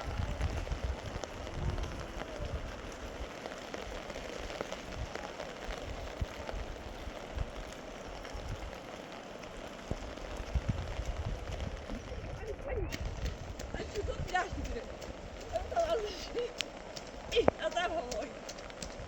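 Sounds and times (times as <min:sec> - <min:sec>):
heavy rain falling: 0:00.0 - 0:19.0
drops ticking on a surface: 0:00.4 - 0:19.0.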